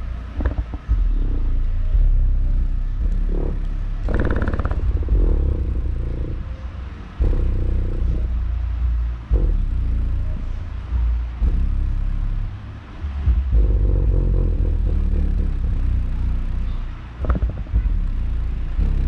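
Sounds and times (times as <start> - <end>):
subwoofer playing bass-heavy music: 0.0 - 19.0.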